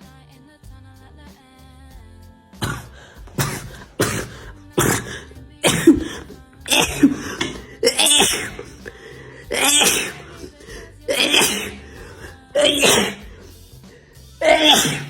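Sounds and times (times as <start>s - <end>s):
person coughing: 2.6s - 15.0s.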